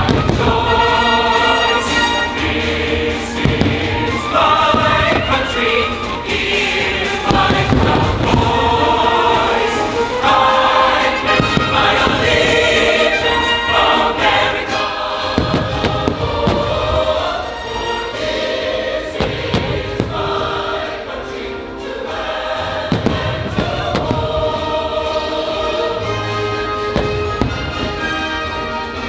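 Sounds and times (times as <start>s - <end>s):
fireworks booming and cracking: 0.0s - 10.2s, 11.0s - 17.7s, 19.1s - 21.0s, 22.6s - 25.7s, 26.7s - 29.0s
choir and orchestra music: 0.0s - 29.0s.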